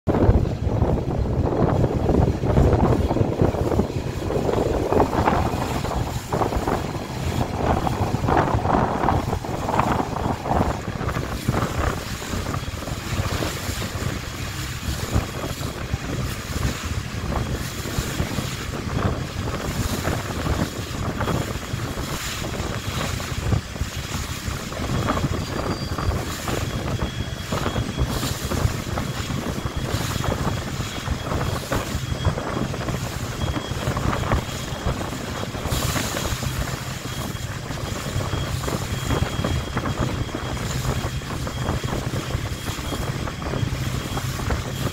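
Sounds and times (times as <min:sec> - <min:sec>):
boat engine humming: 0:00.1 - 0:44.9
wind buffeting microphone: 0:00.1 - 0:44.9.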